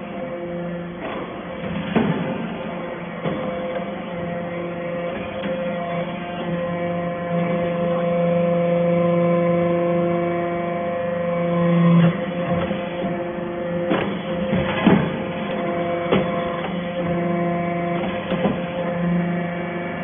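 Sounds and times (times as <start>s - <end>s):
hydraulic baler humming: 0.0s - 20.0s.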